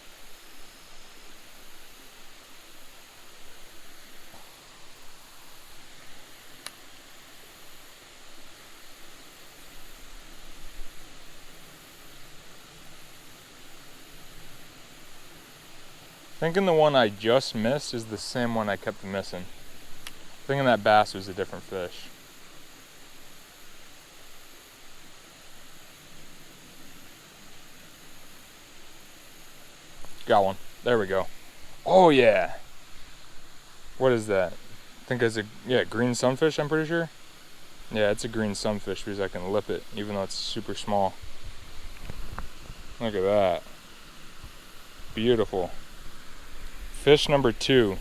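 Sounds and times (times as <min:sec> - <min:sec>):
small waterfall hissing: 0:00.0 - 0:48.0.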